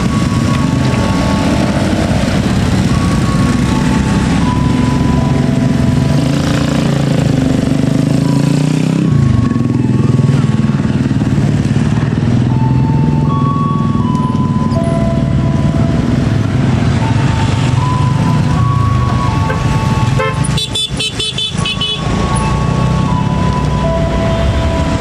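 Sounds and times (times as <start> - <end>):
motorcycles and scooters passing: 0.0 - 25.0.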